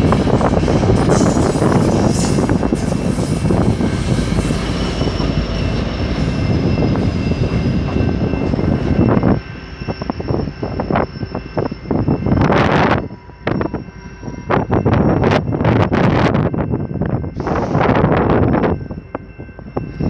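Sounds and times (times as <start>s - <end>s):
train passing with rumble: 0.0s - 20.0s.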